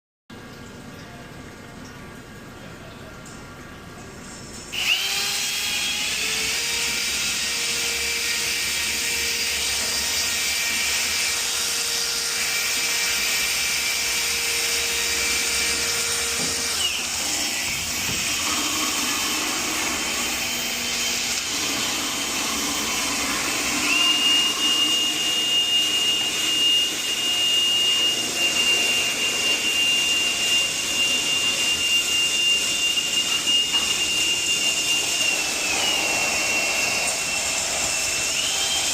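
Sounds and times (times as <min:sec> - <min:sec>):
drain-cleaning machine whining: 0:04.0 - 0:38.9.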